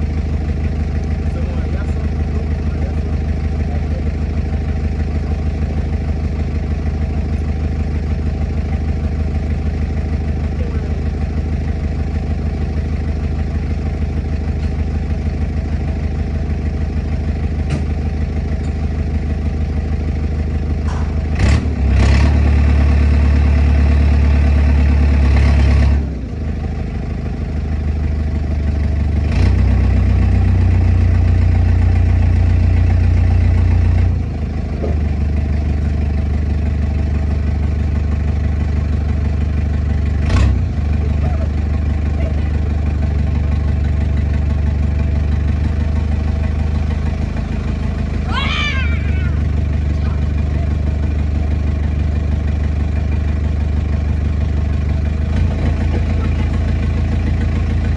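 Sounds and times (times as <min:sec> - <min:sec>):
diesel engine idling and revving: 0:00.0 - 0:57.9.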